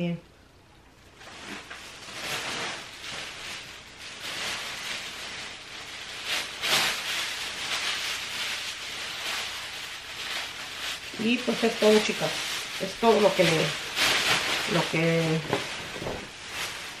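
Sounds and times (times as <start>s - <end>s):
bags crinkling: 1.0s - 17.0s.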